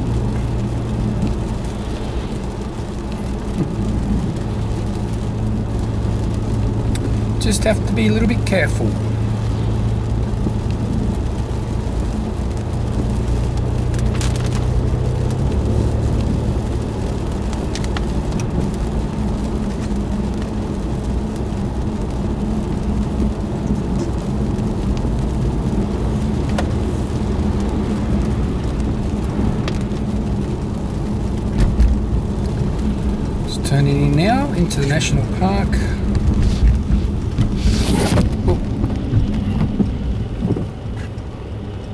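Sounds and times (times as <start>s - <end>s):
car engine hum: 0.0s - 41.9s
tyres hissing on wet road: 0.0s - 41.9s.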